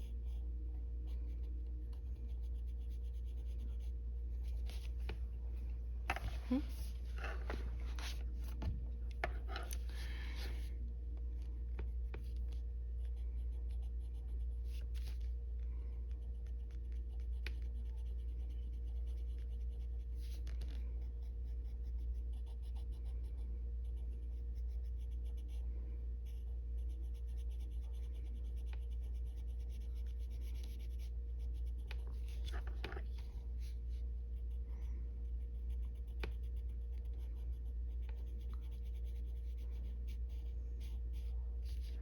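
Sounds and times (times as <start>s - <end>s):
colored pencil scratching on paper: 0.0s - 10.7s, 11.8s - 15.3s, 16.1s - 25.6s, 26.2s - 42.0s
steady low hum: 0.0s - 42.0s.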